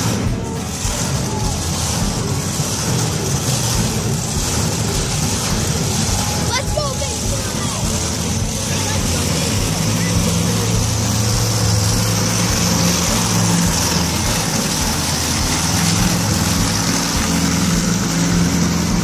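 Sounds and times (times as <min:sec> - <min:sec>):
loud truck engine running: 0:00.0 - 0:19.0.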